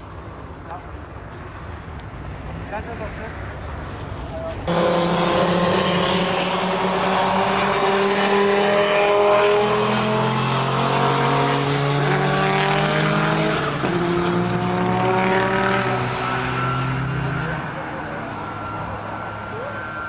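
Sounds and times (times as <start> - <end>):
race car engines accelerating: 0.0 - 20.0.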